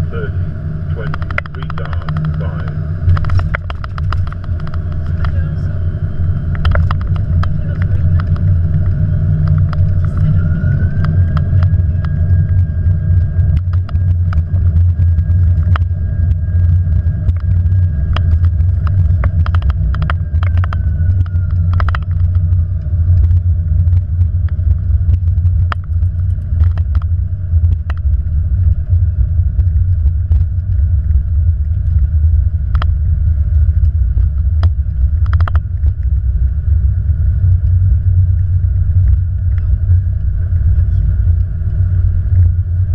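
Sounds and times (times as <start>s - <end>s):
jet engine whine: 0.0s - 42.9s
loud steady runway rumble: 0.0s - 42.9s.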